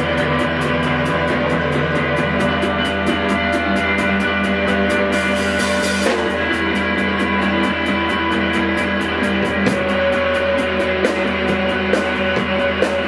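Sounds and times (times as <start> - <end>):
electric guitar and bass drone: 0.0 - 13.0.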